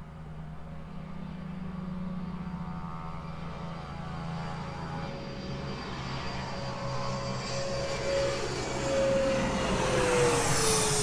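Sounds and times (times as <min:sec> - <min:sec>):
jet engine whine: 0:00.0 - 0:11.0.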